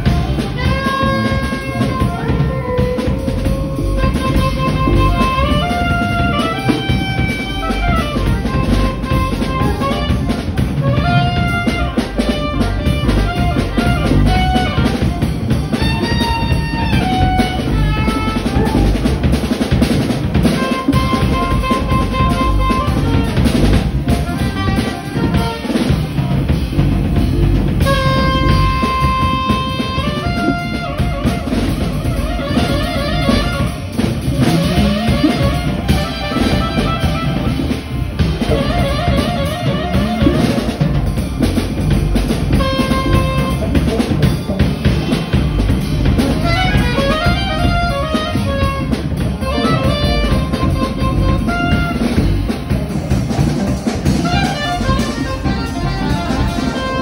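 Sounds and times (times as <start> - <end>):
soprano saxophone solo: 0.0 - 19.6, 20.4 - 44.1, 45.8 - 52.7, 54.0 - 57.0
drum kit: 0.0 - 57.0.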